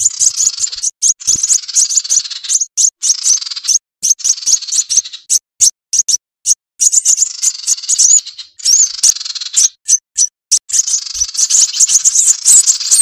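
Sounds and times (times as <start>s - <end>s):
sunbird chips and twitters: 0.0s - 13.0s.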